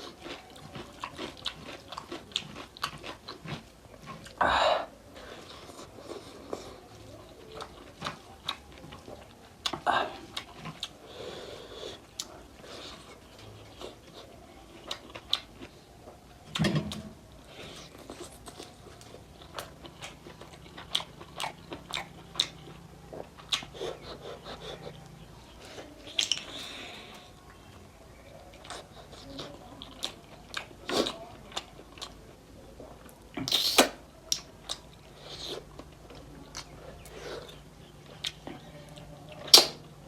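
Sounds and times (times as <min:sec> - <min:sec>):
chewing with wet mouth clicks: 0:00.0 - 0:04.4, 0:05.4 - 0:11.0, 0:11.9 - 0:17.0, 0:17.6 - 0:32.3, 0:33.0 - 0:39.9.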